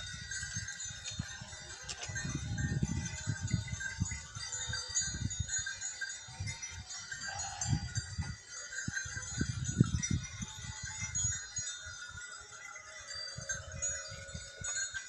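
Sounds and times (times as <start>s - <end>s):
livestock bells tinkling: 0.0s - 15.0s.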